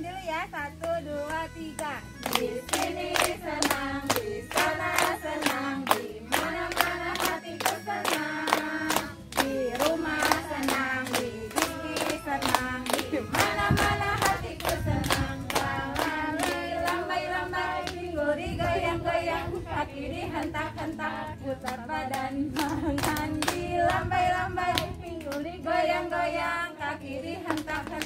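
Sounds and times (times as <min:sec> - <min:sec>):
women singing together: 0:00.3 - 0:28.0
hands clapping in rhythm: 0:00.8 - 0:19.5, 0:20.3 - 0:28.0.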